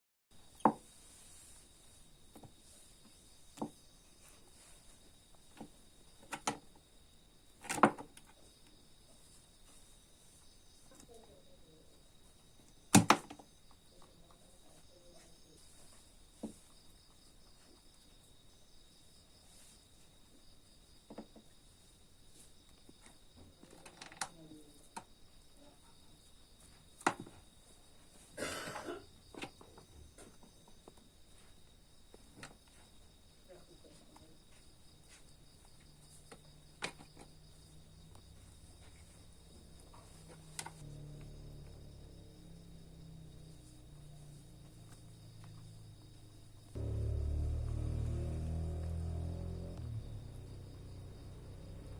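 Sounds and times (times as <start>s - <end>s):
crickets chirring: 0.4s - 51.9s.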